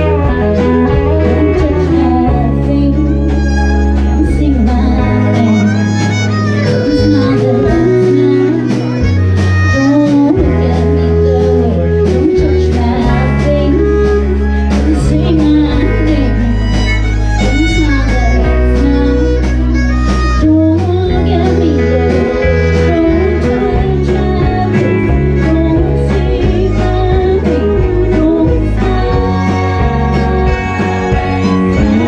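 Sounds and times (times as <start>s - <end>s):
bowed fiddle: 0.0s - 32.0s
country-folk band playing: 0.0s - 32.0s.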